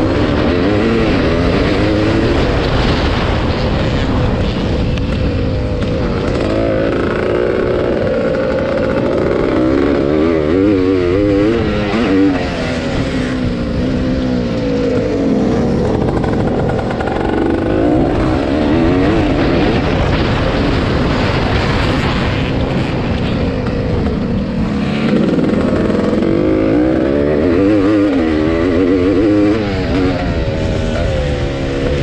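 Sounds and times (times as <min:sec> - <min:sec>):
motocross engine revving: 0:00.0 - 0:32.0.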